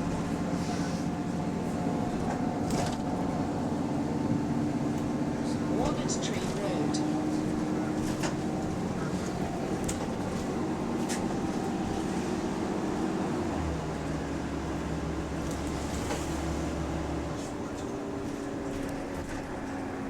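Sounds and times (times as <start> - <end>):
diesel bus engine running: 0.0 - 20.0.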